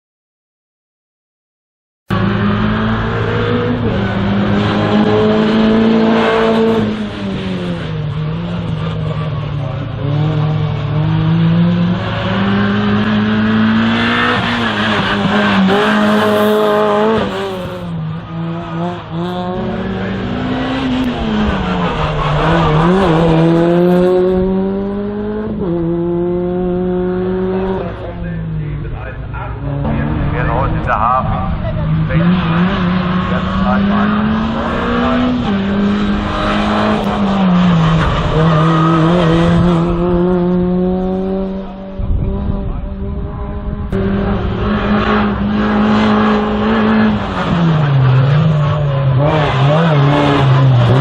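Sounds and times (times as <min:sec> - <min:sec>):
race car engine revving: 0:02.1 - 0:51.0.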